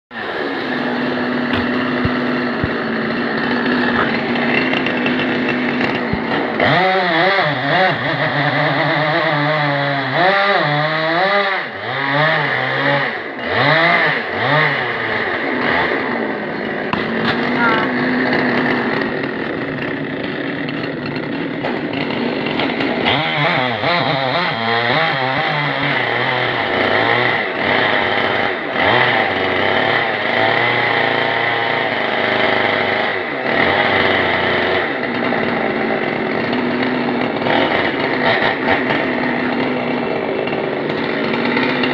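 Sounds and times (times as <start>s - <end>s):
chainsaw running loudly: 0.1s - 41.9s.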